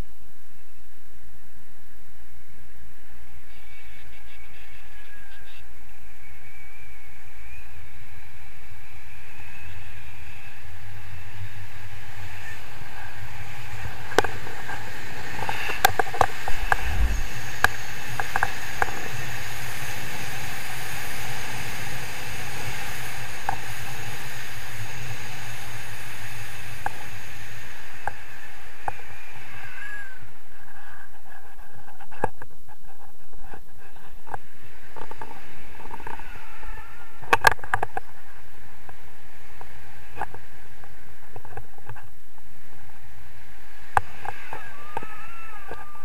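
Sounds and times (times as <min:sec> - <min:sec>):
wind rushing over microphone: 0:05.1 - 0:46.0.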